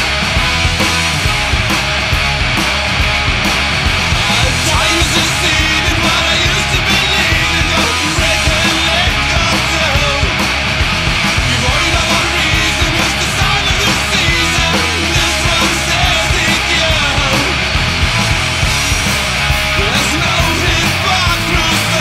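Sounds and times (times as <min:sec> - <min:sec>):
loud stoner rock music: 0:00.0 - 0:22.0.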